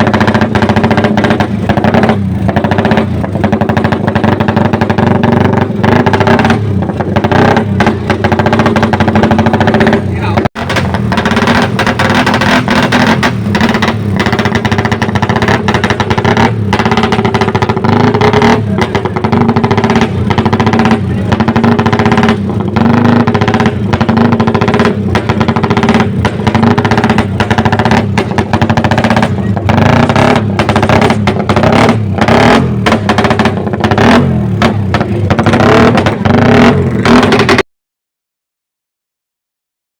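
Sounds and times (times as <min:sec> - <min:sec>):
motorcycle engines running loudly: 0:00.0 - 0:37.6.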